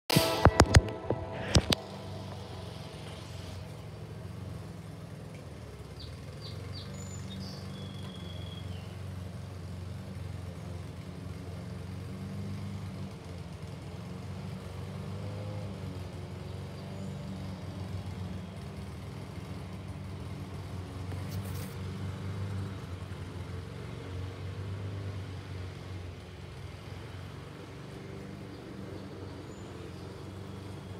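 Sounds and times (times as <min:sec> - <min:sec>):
diesel locomotive rumble: 0:00.0 - 0:30.9.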